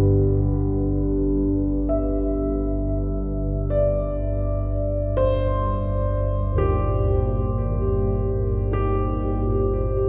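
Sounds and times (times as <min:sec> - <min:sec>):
calm ambient piano chords: 0:00.0 - 0:10.0
low steady background: 0:00.0 - 0:10.0.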